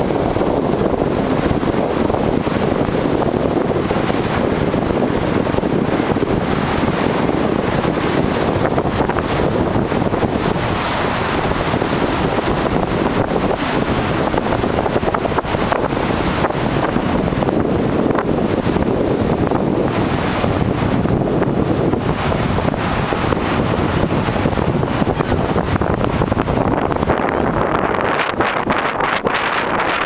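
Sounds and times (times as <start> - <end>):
waves breaking on shore: 0.0 - 30.0
wind buffeting microphone: 0.0 - 30.0.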